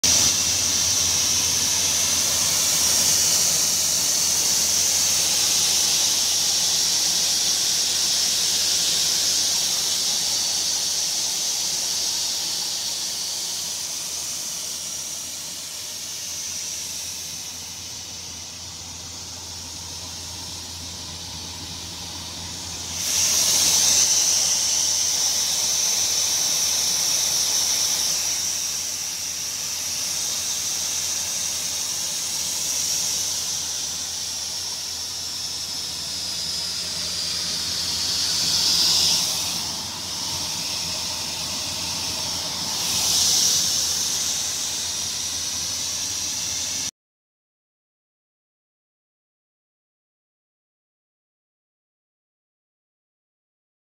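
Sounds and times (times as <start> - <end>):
electric motor hum: 0.0 - 46.8
saw blade whine and hiss: 0.0 - 46.9.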